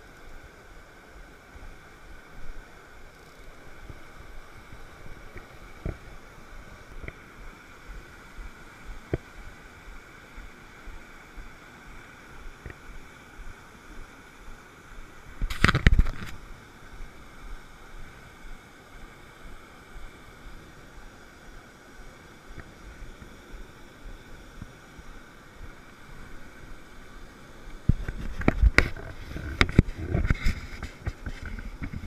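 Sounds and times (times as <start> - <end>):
stream rushing over boulders: 0.0 - 32.0.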